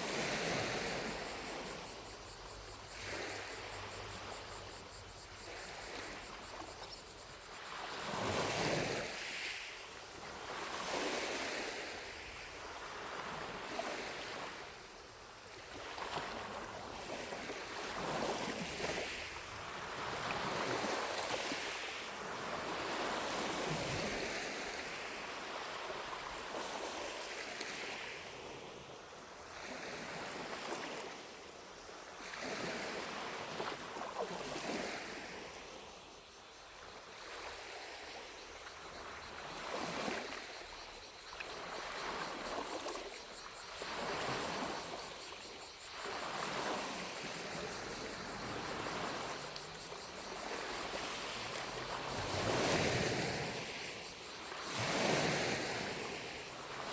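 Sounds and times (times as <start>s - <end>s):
distant cicadas buzzing: 0.0s - 56.9s
waves lapping at shore: 0.0s - 56.9s.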